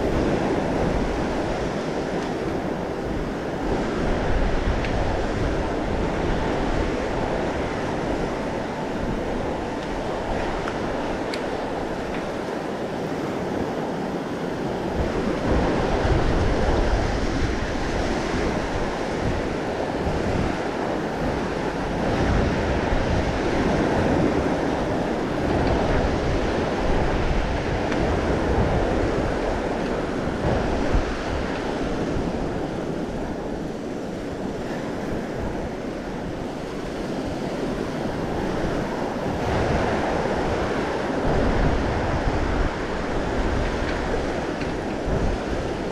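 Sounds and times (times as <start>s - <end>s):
ocean surf breaking: 0.0s - 45.9s
wind buffeting microphone: 0.0s - 45.9s.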